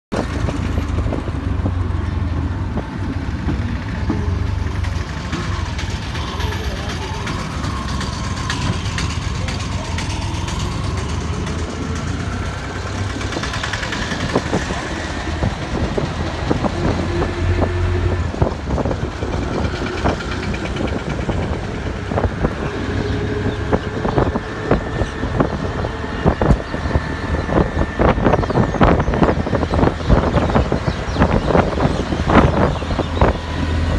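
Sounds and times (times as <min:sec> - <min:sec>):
road and traffic noise: 0:00.1 - 0:33.9
vehicle engine running: 0:00.1 - 0:33.9.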